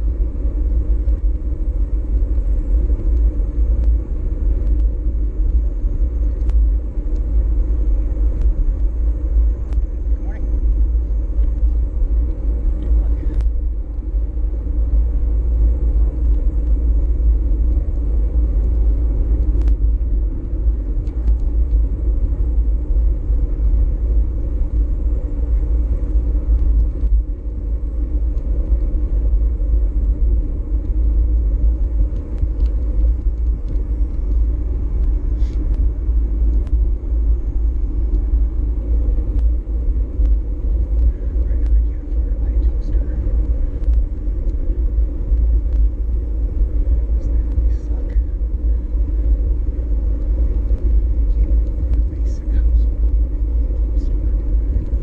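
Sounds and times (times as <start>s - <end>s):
bicycle riding hum: 0.0s - 55.0s
wind buffeting microphone: 0.0s - 55.0s.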